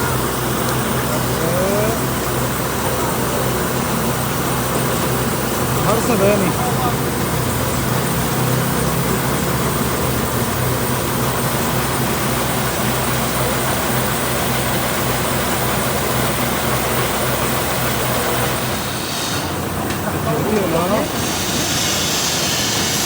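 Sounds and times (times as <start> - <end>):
road noise: 0.0 - 23.0
truck engine running: 0.0 - 23.0.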